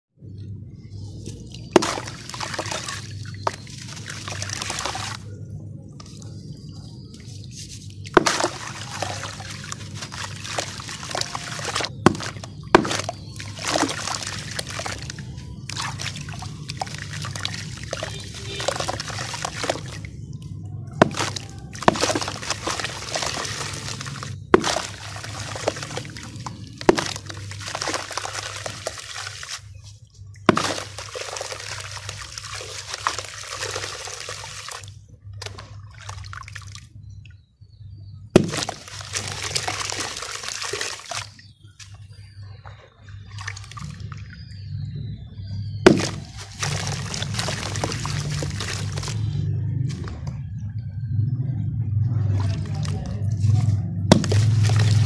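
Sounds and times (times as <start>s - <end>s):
dirt trickling into water: 0.2s - 50.6s, 51.9s - 55.0s
low steady hum: 0.2s - 55.0s
lumps splashing into water: 1.4s - 5.3s, 7.8s - 37.2s, 38.3s - 44.7s, 45.4s - 50.3s, 52.2s - 55.0s.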